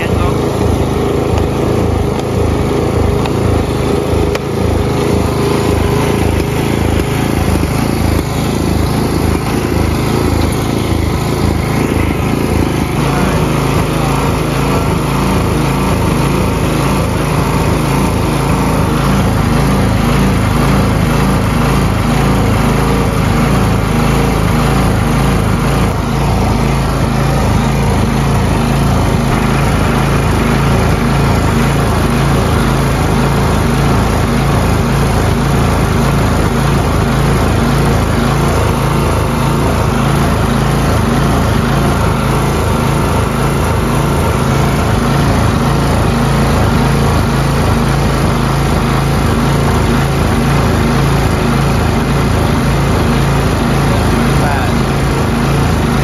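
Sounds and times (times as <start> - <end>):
snowblower engine running: 0.0 - 56.0.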